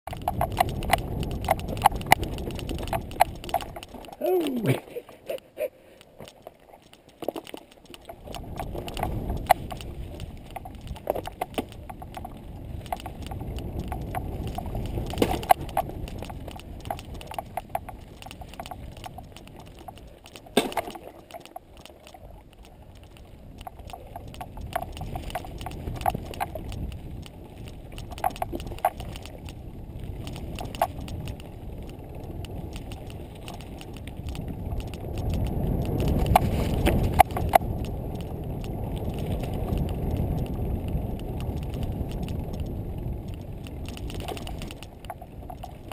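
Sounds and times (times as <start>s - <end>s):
wind: 0.0s - 45.9s
bike clicks and rattles: 0.1s - 45.9s
tyres rumbling on dirt trail: 0.1s - 45.9s.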